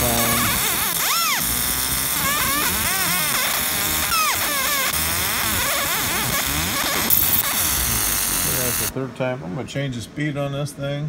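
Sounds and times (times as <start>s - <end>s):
laser marker whine and hum: 0.0s - 8.9s
rising and falling arching tones: 0.0s - 8.9s.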